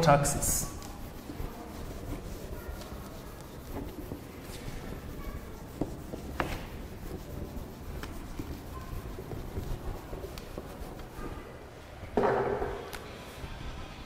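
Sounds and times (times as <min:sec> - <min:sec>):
duster scrubbing whiteboard: 0:00.0 - 0:11.6.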